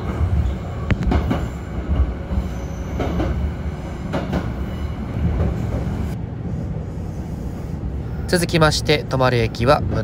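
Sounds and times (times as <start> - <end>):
train low rumble: 0.0 - 10.0.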